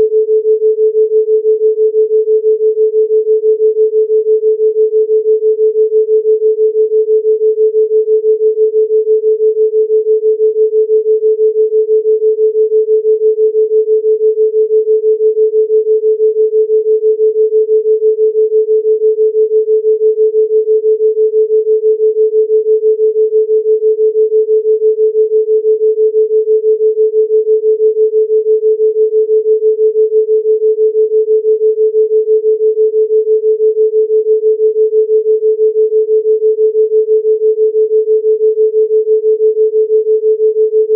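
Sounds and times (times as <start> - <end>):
wavering sine tone: 0.0 - 40.9.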